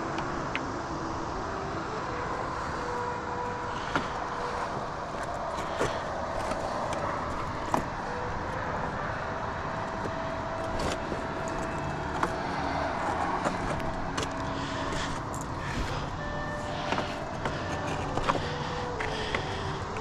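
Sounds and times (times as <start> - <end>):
distant road traffic: 0.0 - 20.0.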